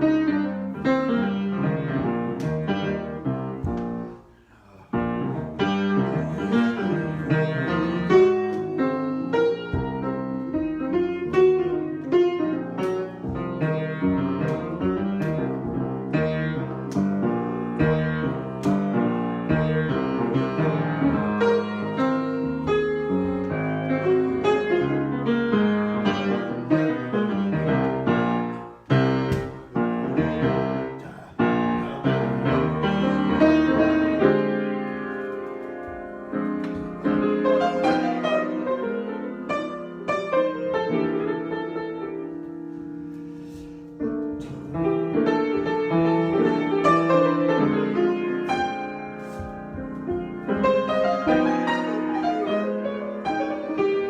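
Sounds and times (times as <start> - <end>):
solo piano improvisation: 0.0 - 54.0.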